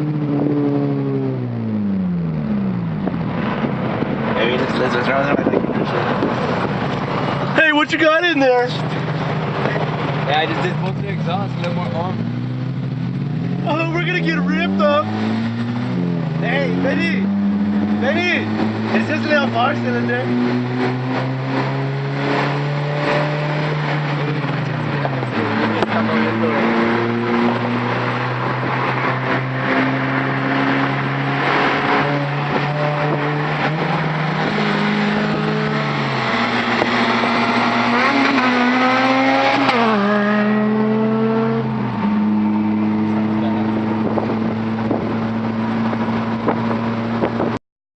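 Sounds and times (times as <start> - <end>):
loud car engine revving: 0.0 - 47.6.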